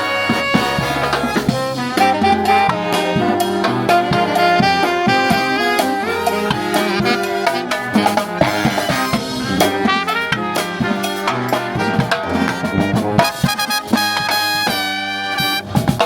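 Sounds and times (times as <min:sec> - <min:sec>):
brass band playing swing jazz: 0:00.0 - 0:16.0
drums: 0:00.0 - 0:16.0.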